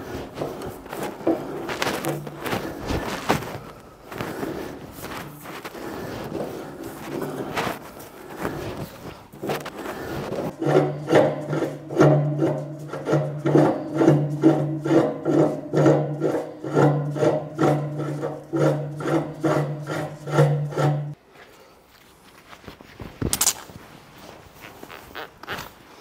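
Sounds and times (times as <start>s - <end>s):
faint scraping workshop sounds: 0.0s - 23.1s.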